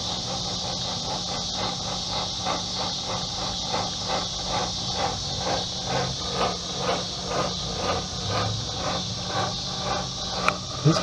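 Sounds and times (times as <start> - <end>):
smoke machine hissing and pulsing: 0.0 - 11.0.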